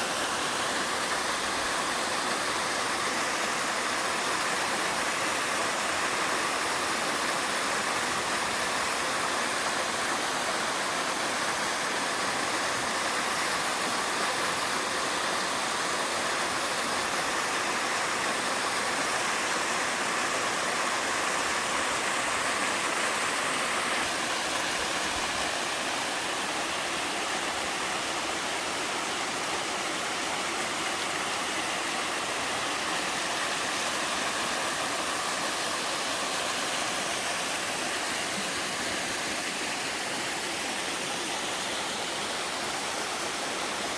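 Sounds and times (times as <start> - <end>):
stream rushing: 0.0 - 43.9
waterfall splashing: 0.0 - 43.9.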